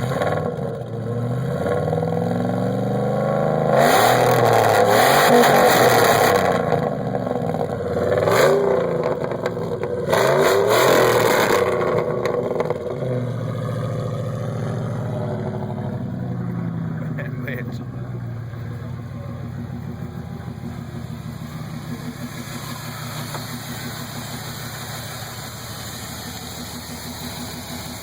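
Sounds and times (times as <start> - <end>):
loud engine revving and idling: 0.0 - 28.0.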